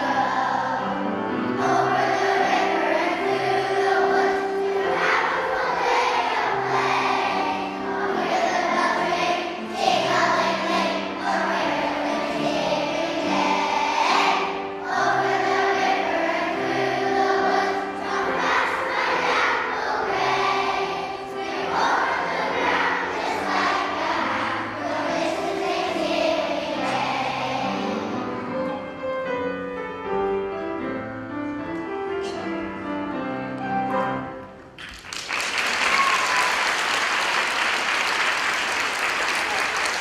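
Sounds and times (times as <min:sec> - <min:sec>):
children's choir singing: 0:00.0 - 0:31.0, 0:35.8 - 0:40.0.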